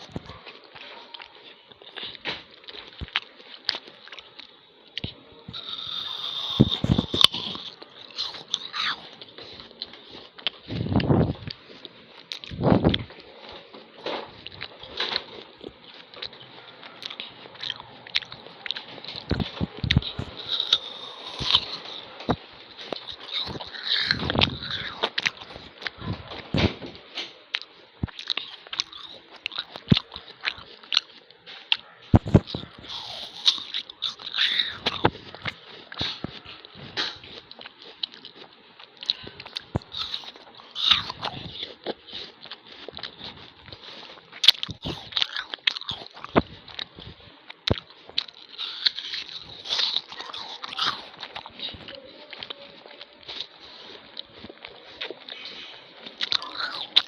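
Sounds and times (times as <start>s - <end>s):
apple being bitten and chewed: 0.0s - 57.0s.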